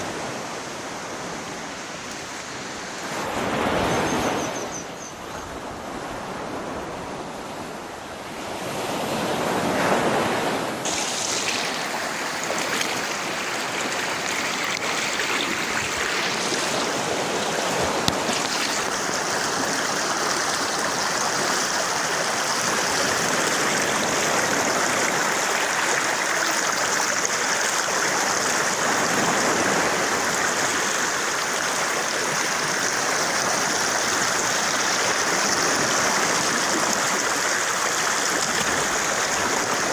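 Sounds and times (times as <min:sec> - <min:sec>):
rushing stream water: 0:00.0 - 0:04.6, 0:10.7 - 0:39.9.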